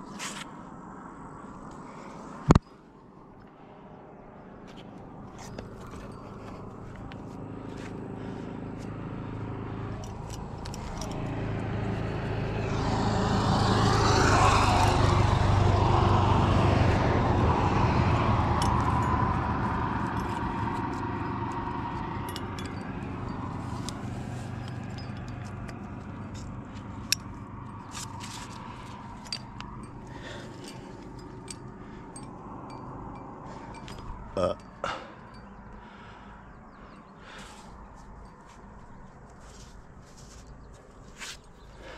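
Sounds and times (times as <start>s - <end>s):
vehicle passing: 3.6s - 41.0s.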